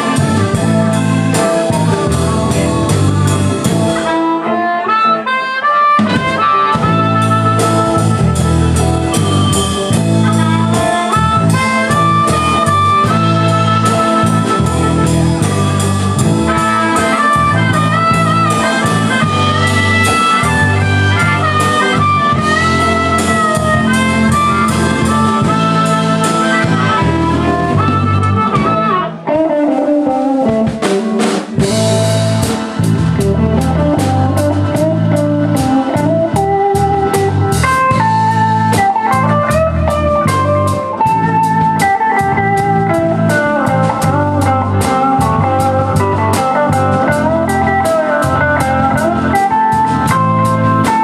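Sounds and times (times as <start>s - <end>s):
harmonica lead: 0.0s - 29.8s, 31.6s - 51.0s
blues band playing: 0.0s - 51.0s
electric guitar solo: 0.0s - 51.0s.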